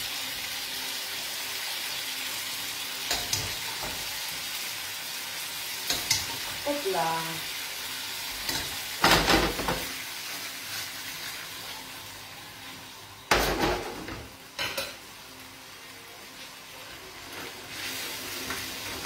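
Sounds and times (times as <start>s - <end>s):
pasta sizzling in frying pan: 0.0s - 19.0s.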